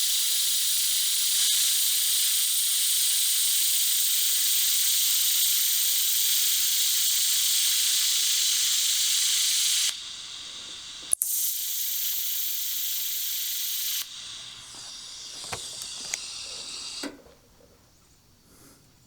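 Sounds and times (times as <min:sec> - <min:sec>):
welding arc hissing: 0:00.0 - 0:17.7.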